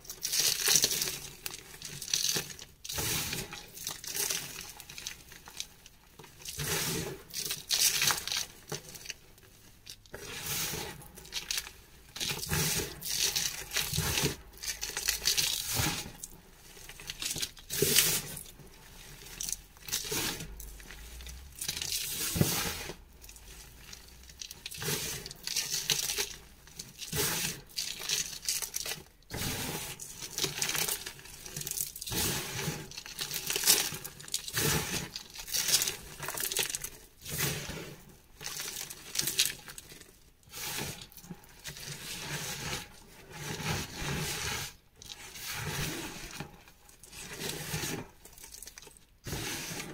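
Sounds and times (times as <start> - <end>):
hands crunching chalk powder: 0.0 - 9.2, 9.8 - 46.4.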